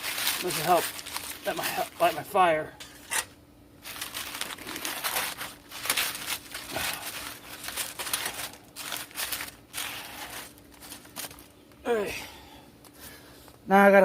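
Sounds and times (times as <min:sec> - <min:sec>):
paper rustling and crinkling: 0:00.0 - 0:11.8
faint steady hum: 0:00.0 - 0:14.0.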